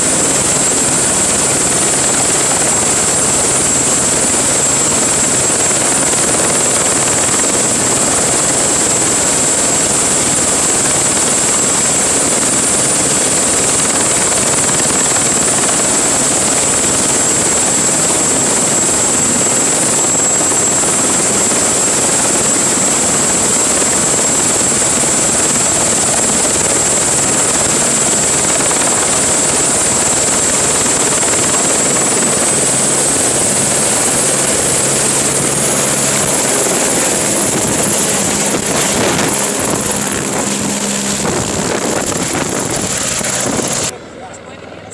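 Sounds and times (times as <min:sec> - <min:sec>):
helicopter rotor noise: 0:00.0 - 0:44.9
helicopter turbine whine: 0:00.0 - 0:44.9.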